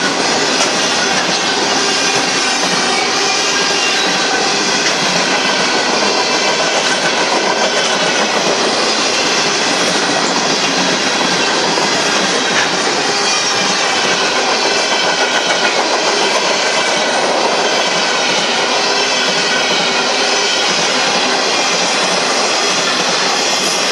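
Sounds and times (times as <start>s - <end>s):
train wheels rumbling and clattering: 0.0s - 23.9s.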